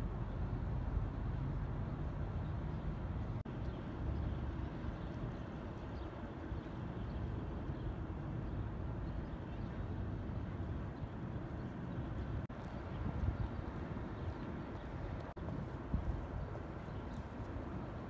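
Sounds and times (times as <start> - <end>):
city traffic noise: 0.0 - 18.0.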